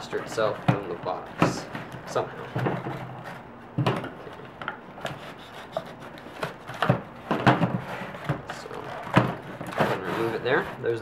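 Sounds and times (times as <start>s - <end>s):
cardboard scraping and rubbing: 0.0s - 3.5s, 4.2s - 11.0s.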